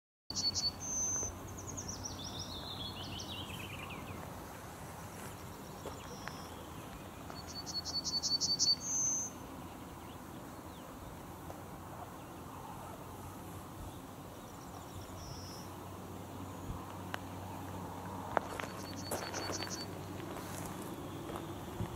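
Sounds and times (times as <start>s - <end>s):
faint outdoor hiss: 0.3s - 21.9s
songbirds singing: 0.3s - 21.9s.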